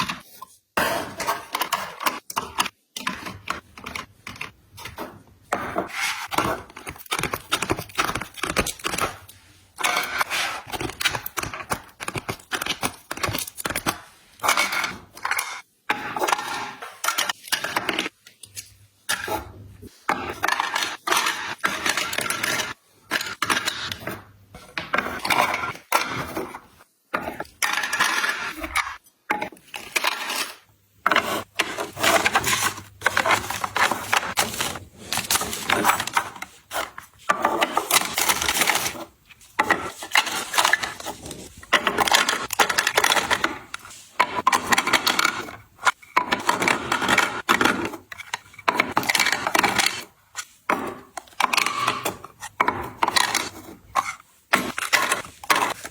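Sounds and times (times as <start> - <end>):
small hard items clattering: 0.8 - 19.3, 20.1 - 55.9.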